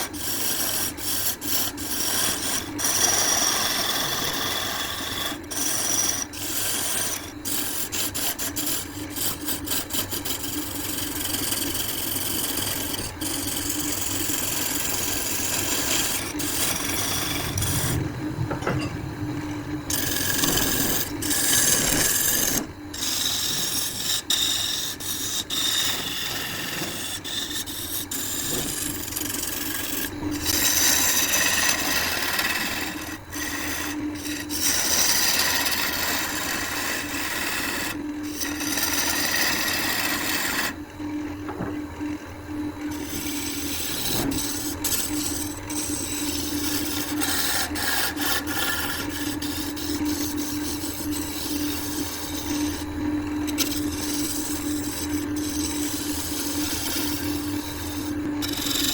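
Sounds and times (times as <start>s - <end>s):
wood lathe humming: 0.0s - 40.8s, 42.8s - 58.9s
tool scraping spinning wood: 0.0s - 42.0s, 42.6s - 58.9s.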